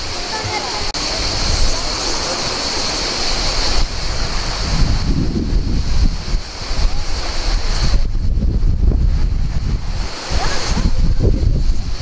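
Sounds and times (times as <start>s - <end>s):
hiss: 0.0s - 12.0s
surf: 0.0s - 12.0s
wind buffeting microphone: 0.0s - 12.0s.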